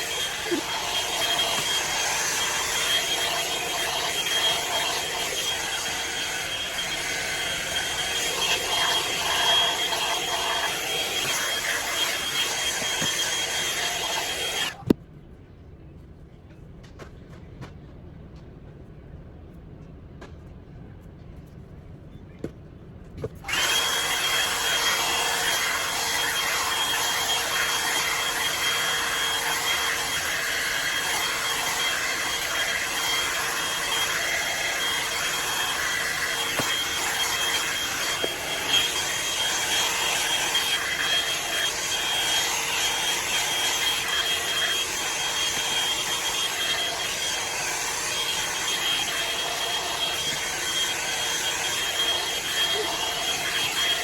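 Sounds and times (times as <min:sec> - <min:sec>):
blow-dryer brush running: 0:00.0 - 0:15.0, 0:23.4 - 0:54.0.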